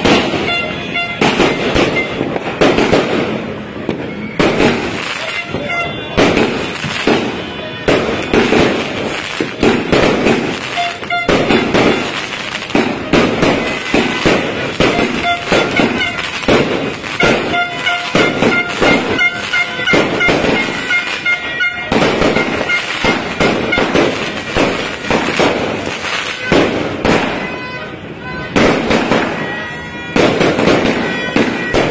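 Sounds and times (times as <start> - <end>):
fireworks crackling: 0.0 - 31.9
fireworks shots and bursts: 0.0 - 31.9.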